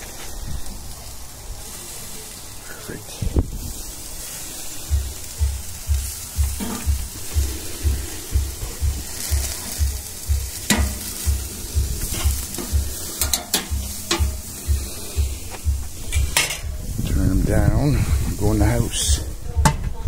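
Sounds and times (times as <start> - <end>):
steaks sizzling on a grill: 0.0 - 20.0
low pulsing throb: 3.3 - 20.0.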